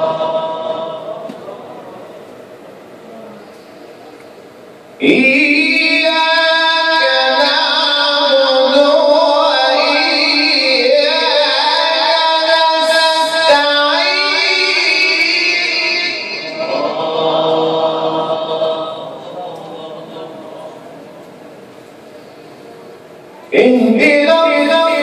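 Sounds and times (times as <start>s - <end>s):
person reciting melodically: 0.0s - 2.3s, 5.0s - 21.2s, 23.3s - 25.0s.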